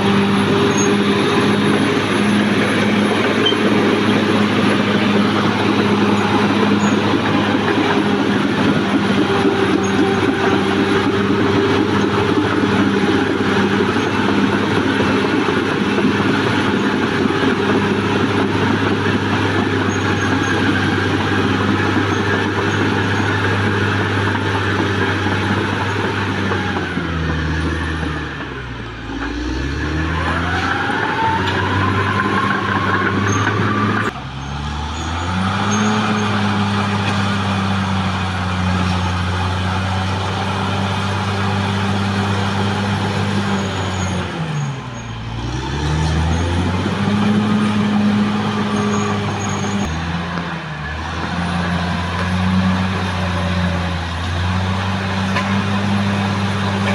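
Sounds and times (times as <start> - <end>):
bulldozer diesel engine under load: 0.0 - 56.9
engine whine: 0.0 - 56.9.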